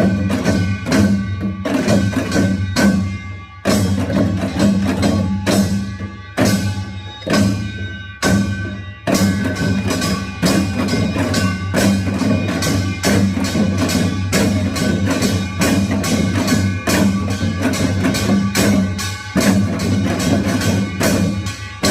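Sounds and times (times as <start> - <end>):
drums: 0.0 - 21.9.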